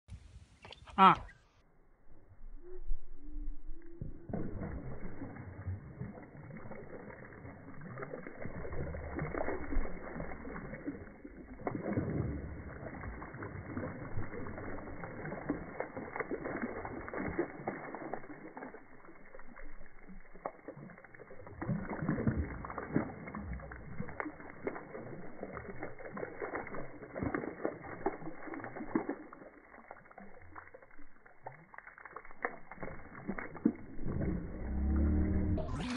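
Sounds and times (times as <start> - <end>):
water splashing: 3.6 - 35.9.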